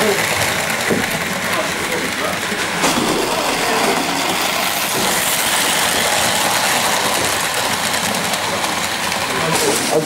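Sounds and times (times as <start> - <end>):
model trains running: 0.0 - 10.0.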